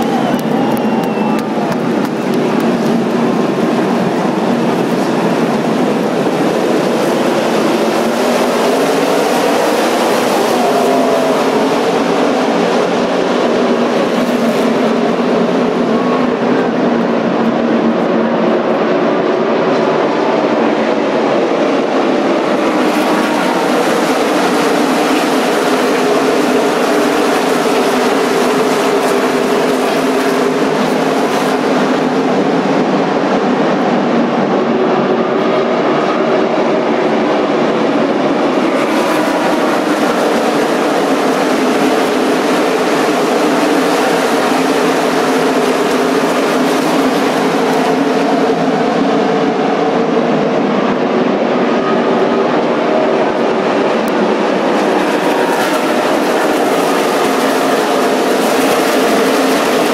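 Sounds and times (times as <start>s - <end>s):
race car engines roaring: 0.0s - 59.9s.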